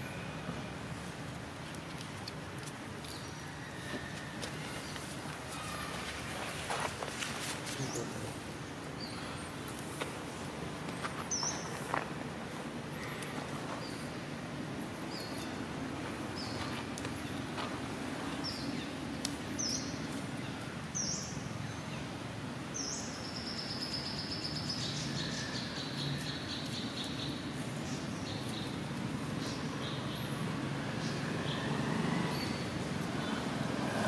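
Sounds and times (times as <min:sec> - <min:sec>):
low background noise: 0:00.0 - 0:34.0
small birds chirping: 0:01.3 - 0:34.0.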